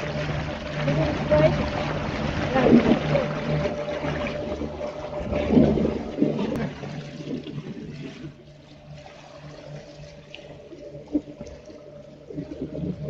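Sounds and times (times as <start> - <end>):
electric motors humming: 0.0 - 13.0
water rushing along boat hull: 0.0 - 13.0.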